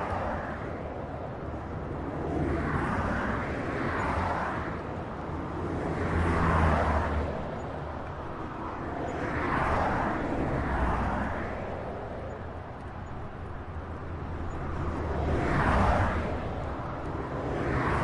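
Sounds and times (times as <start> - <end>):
highway traffic: 0.0 - 18.0
vehicles passing by: 0.0 - 18.0.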